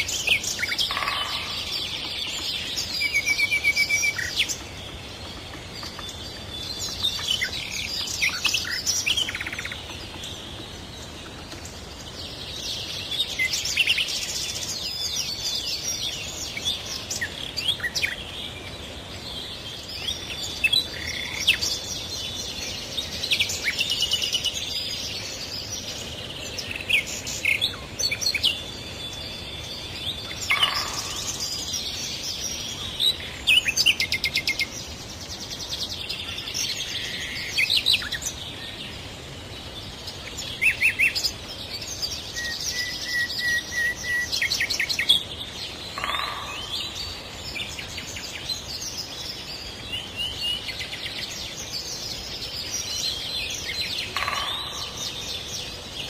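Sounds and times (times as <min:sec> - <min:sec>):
birds singing and chirping: 0:00.0 - 0:56.0
faint steady hiss: 0:00.0 - 0:56.0.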